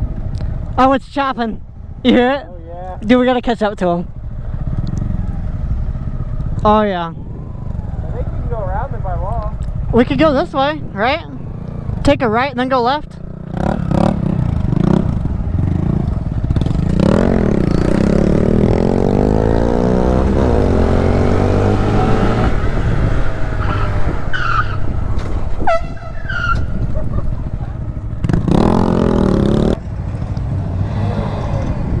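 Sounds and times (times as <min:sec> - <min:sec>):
wind and road noise: 0:00.0 - 0:32.0
motorcycle engine revving: 0:01.7 - 0:32.0.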